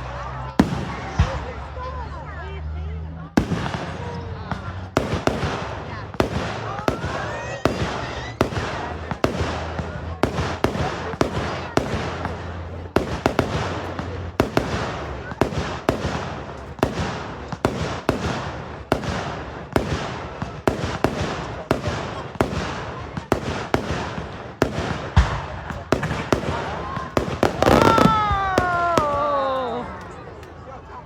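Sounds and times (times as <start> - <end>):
fireworks crackling: 0.0 - 2.7, 3.3 - 30.8.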